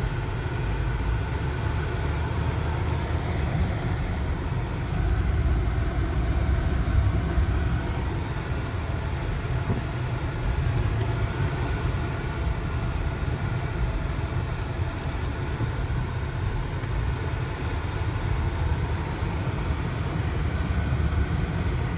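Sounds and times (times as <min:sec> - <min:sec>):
car engine and road noise: 0:00.0 - 0:21.9.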